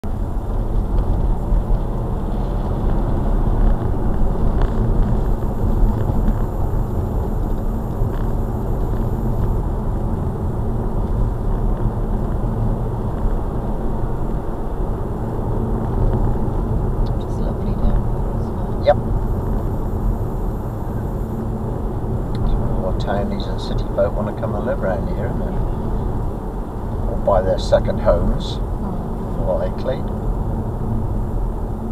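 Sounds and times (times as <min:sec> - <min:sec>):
car interior road rumble: 0:00.0 - 0:31.9.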